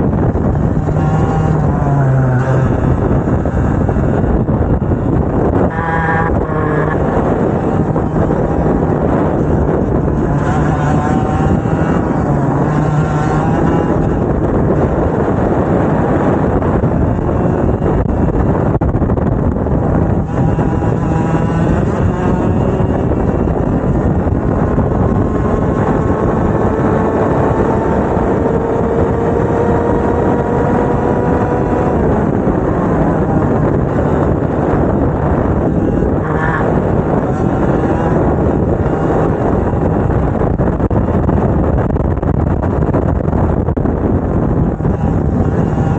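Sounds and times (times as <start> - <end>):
two-stroke kart engine revving: 0.0 - 45.9.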